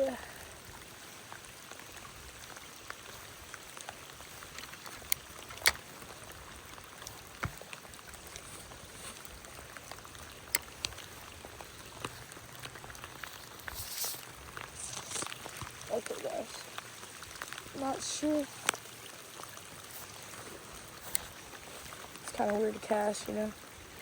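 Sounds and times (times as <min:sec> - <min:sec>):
falling rain: 0:00.0 - 0:24.0
flowing creek: 0:00.0 - 0:24.0.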